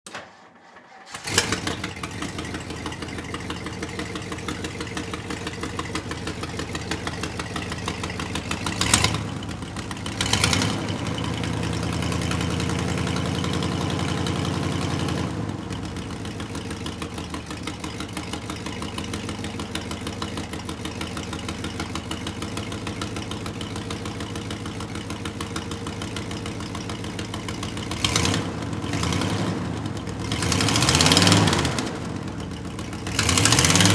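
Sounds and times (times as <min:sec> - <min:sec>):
vehicle engine idling and revving: 0:01.1 - 0:33.9.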